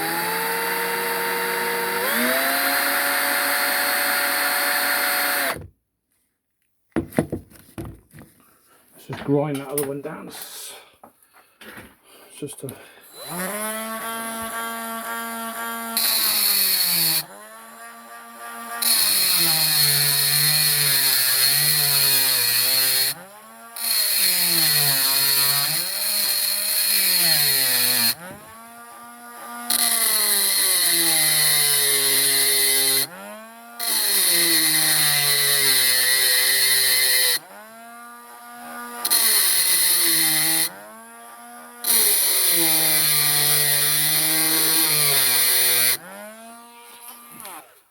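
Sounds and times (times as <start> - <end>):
electric grinding tool whine: 0.0 - 5.7, 13.0 - 47.8.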